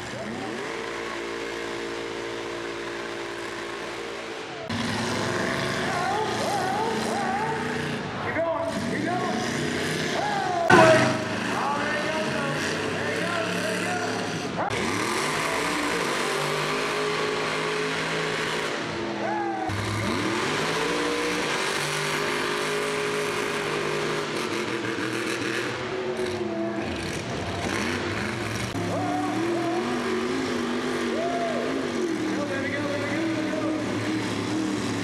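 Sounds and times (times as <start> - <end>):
truck engines revving under load: 0.0 - 35.0.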